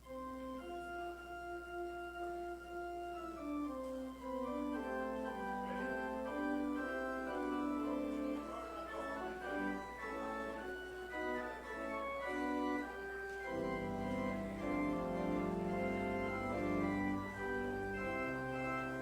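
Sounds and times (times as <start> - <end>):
church organ playing: 0.0 - 19.0.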